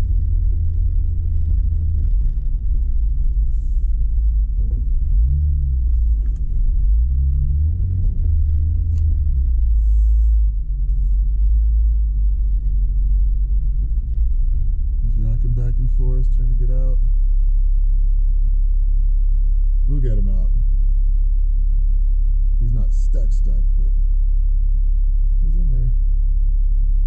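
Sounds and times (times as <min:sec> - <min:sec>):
engine low rumble: 0:00.0 - 0:27.0.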